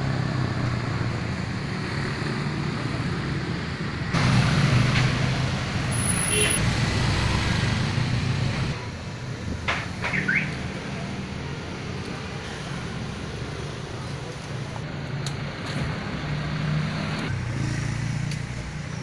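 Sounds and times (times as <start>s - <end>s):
vehicle engines running: 0.0s - 19.0s.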